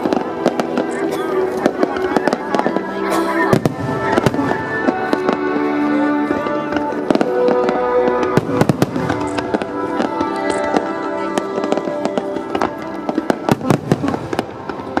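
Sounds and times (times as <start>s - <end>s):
fireworks bangs and crackles: 0.0s - 15.0s
music over loudspeakers: 0.0s - 15.0s.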